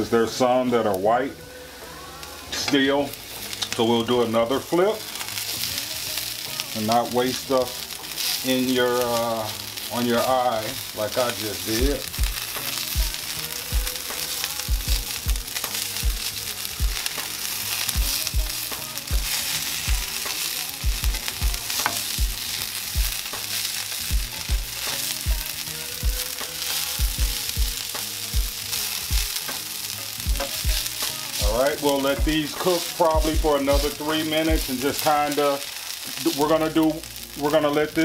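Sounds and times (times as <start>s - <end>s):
hash browns sizzling in a pan: 0.0s - 38.0s.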